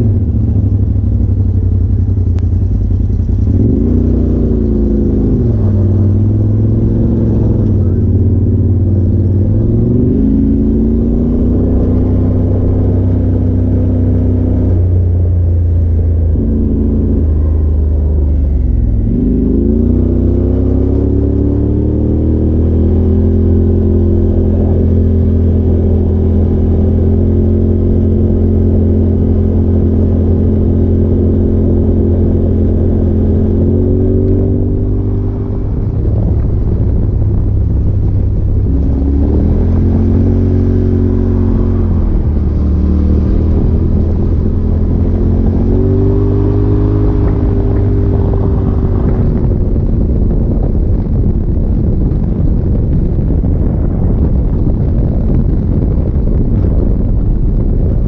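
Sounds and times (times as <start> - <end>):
road noise: 0.0 - 58.0
vehicle engine running: 0.0 - 58.0
wind noise: 0.0 - 58.0.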